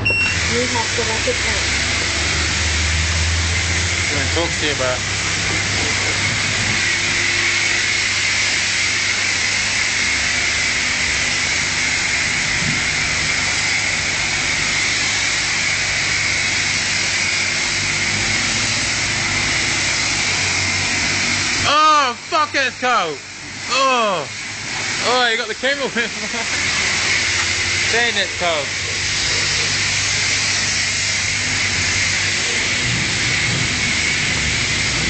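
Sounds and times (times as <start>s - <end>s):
pressure washer spraying water: 0.0s - 35.0s.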